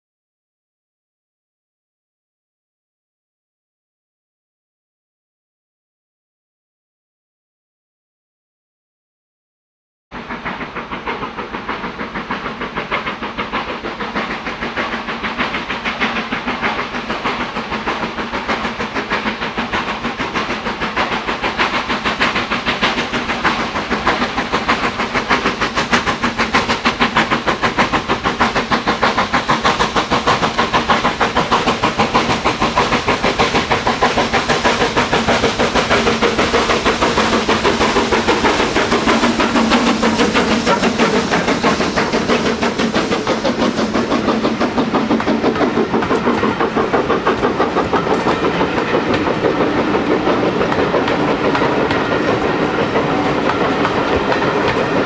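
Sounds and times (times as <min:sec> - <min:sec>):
steam locomotive exhaust beats: 0:10.1 - 0:55.0.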